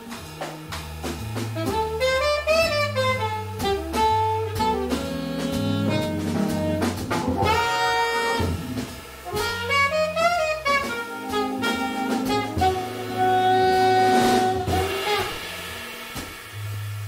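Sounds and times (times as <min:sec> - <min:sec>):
drum kit with cymbals: 0:00.0 - 0:17.0
alto saxophone melody: 0:01.4 - 0:16.0.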